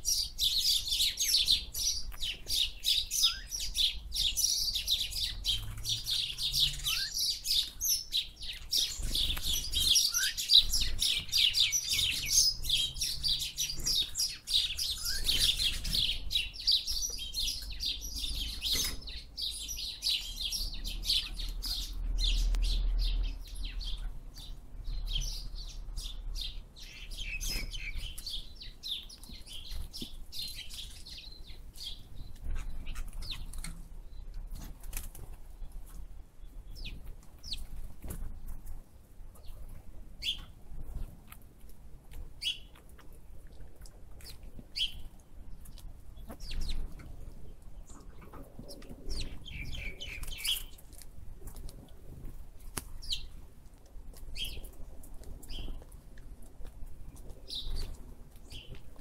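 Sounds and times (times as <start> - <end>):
birds chirping: 0.0 - 38.2, 39.3 - 41.2, 42.4 - 51.0, 52.9 - 53.4, 54.3 - 55.8, 57.0 - 59.0.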